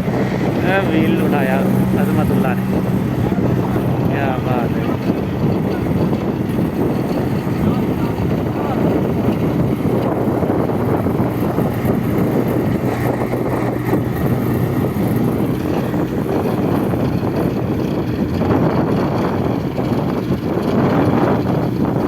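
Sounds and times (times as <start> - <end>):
loader engine humming: 0.0 - 22.0.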